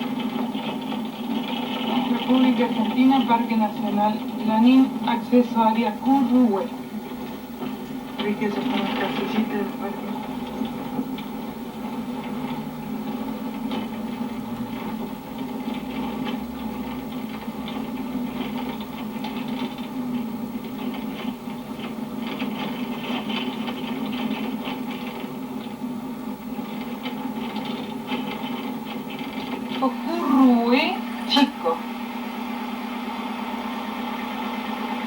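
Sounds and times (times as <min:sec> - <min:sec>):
light rattles and crackles: 0:00.0 - 0:30.9.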